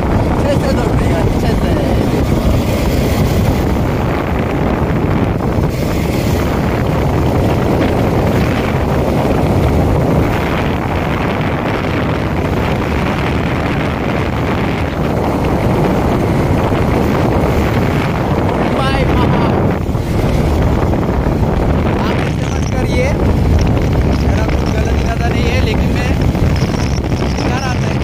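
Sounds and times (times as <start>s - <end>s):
motorcycle engine: 0.0s - 28.0s
wind rushing over microphone: 0.0s - 28.0s.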